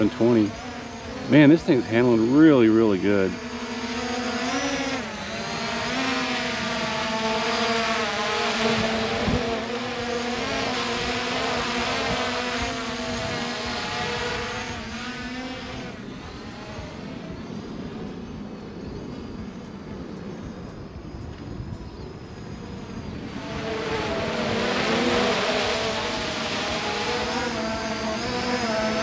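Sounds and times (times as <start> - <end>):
drone buzzing hum: 0.0 - 29.0.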